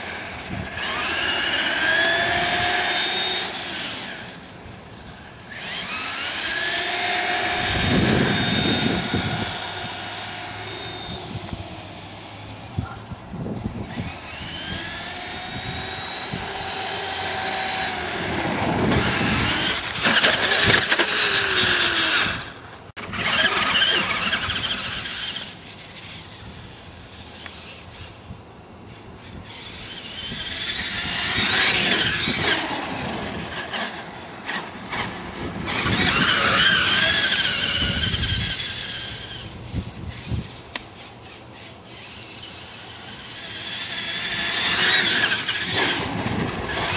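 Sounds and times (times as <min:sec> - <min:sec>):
electric toy car motor whining: 0:00.0 - 0:46.9.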